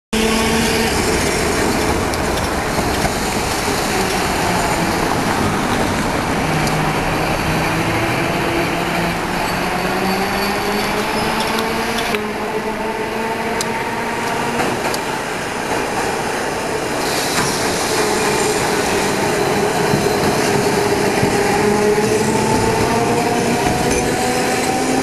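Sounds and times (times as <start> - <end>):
city street noise: 0.1 - 25.0
tram wheels rumbling on rails: 0.2 - 25.0.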